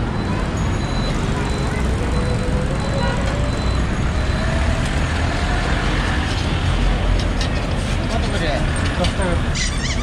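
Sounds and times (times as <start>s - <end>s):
passing vehicles rumble: 0.0s - 10.0s.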